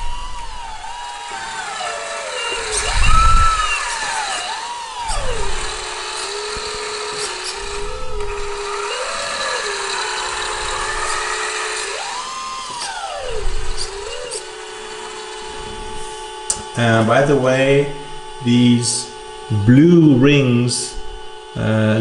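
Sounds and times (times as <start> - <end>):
electric hydraulic pump whining: 0.0 - 22.0.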